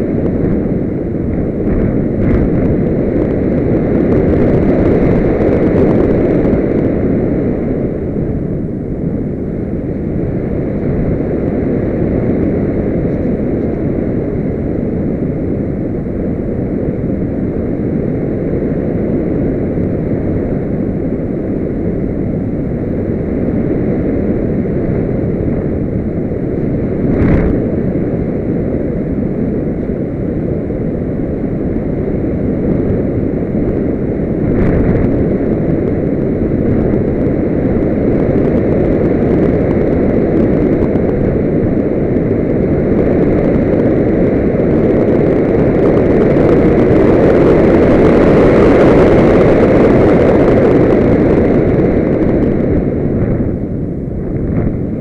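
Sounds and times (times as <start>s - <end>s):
wind rushing past camera: 0.0s - 55.0s.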